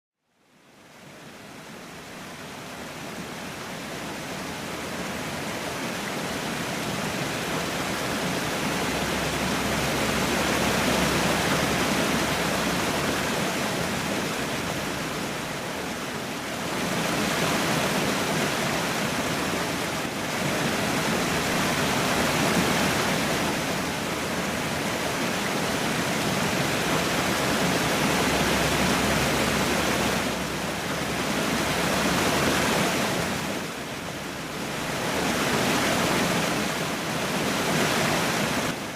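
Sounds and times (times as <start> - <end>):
fountain water splashing: 1.7 - 38.9.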